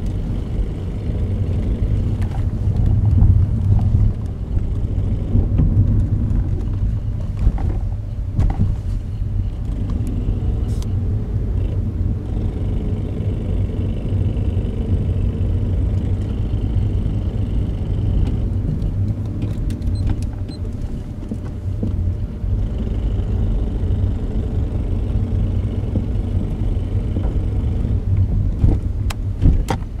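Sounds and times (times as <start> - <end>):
car engine rumble: 0.0 - 30.0.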